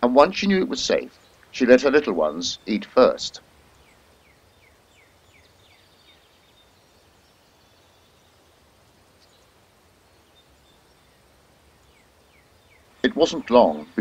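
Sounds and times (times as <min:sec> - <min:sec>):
bird chirping faintly: 0:00.0 - 0:14.0.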